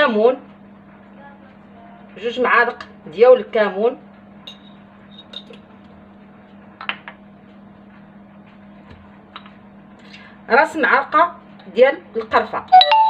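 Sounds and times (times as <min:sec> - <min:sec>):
room tone hum: 0:00.0 - 0:13.0.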